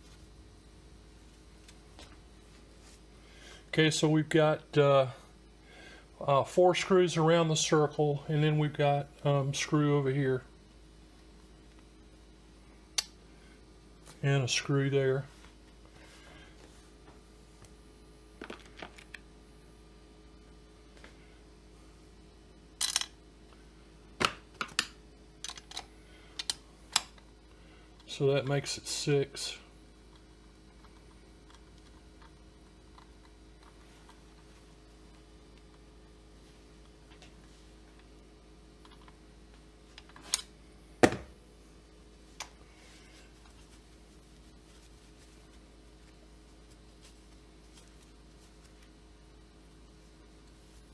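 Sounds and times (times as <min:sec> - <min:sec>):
faint hum: 0:00.0 - 0:50.9.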